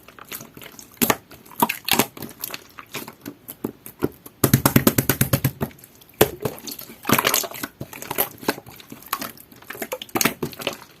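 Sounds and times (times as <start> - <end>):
slime squished by hand: 0.0 - 11.0
sticky pops and crackles: 0.3 - 11.0.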